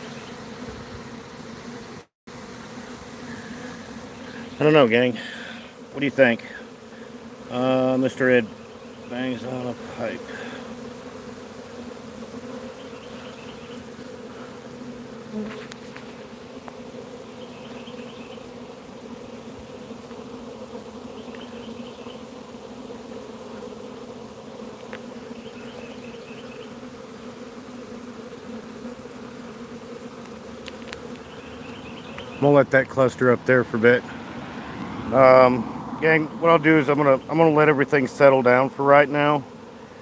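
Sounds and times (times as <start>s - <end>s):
bees buzzing: 0.0s - 40.0s.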